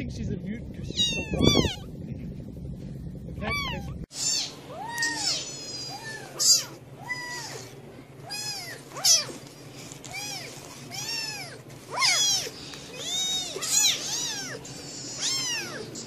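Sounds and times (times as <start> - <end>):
kittens meowing: 0.8 - 1.9, 3.4 - 9.4, 10.0 - 16.0.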